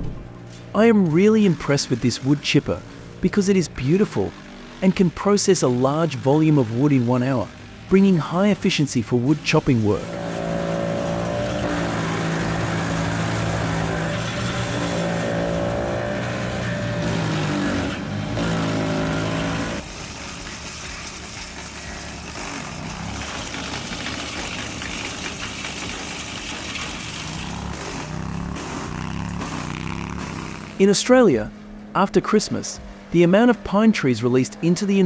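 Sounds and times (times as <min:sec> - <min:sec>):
wood chipper engine under load: 0:00.0 - 0:30.8.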